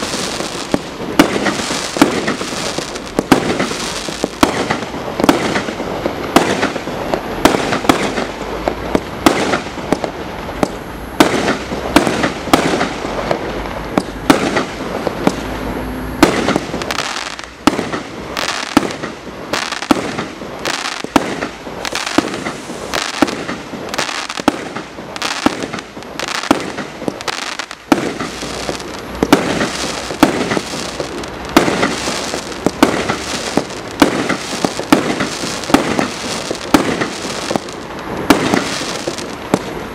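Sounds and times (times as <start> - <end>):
fireworks cake firing: 0.0 - 15.5, 16.2 - 39.9.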